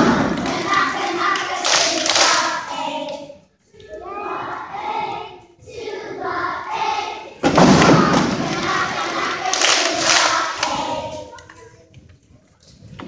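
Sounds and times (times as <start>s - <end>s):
children's choir singing: 0.0s - 11.8s.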